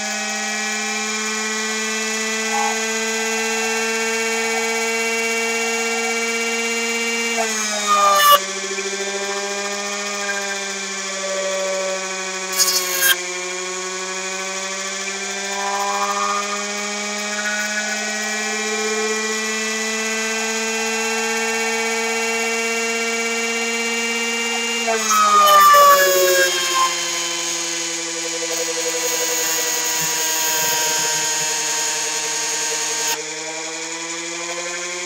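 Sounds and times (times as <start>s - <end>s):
motor generator whine: 0.0s - 35.0s.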